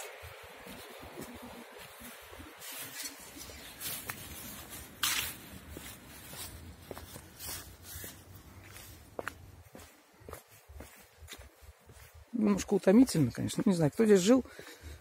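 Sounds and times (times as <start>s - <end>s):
footsteps scuffing on pavement: 0.0s - 12.6s.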